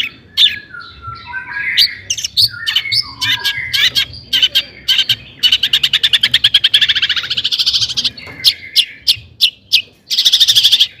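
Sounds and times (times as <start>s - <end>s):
bird rattling song: 0.0s - 11.0s.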